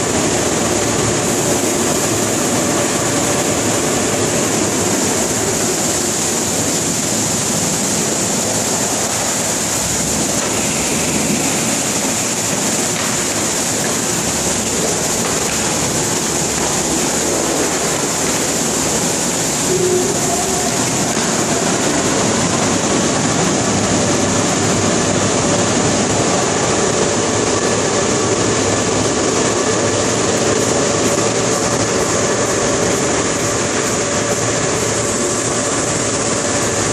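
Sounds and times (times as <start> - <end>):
car wash brush and water spray: 0.0 - 36.9.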